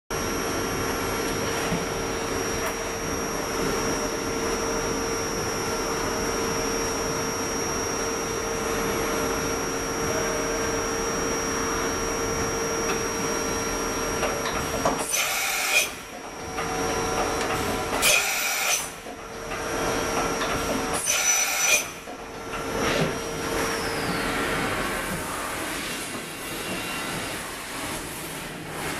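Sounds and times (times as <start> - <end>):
machining centre humming and whining: 0.1 - 28.9.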